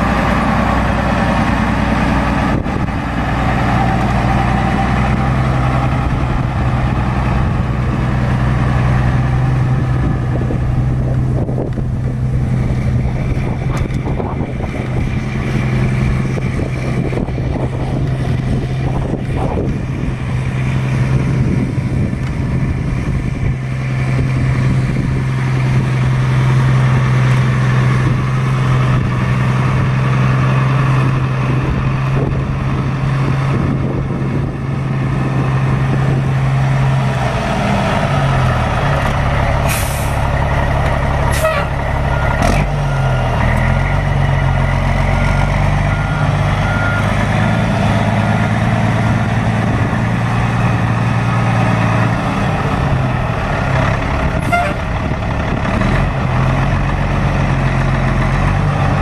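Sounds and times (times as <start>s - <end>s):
diesel truck engine drone: 0.0s - 59.0s.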